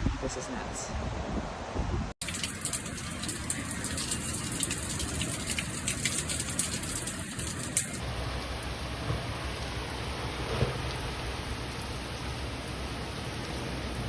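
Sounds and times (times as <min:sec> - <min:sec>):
rain hiss with drop impacts: 0:02.2 - 0:14.0.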